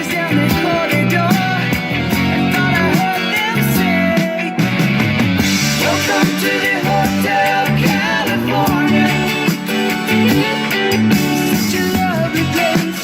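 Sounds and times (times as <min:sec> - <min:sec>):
rock song through portable speaker: 0:00.0 - 0:13.0.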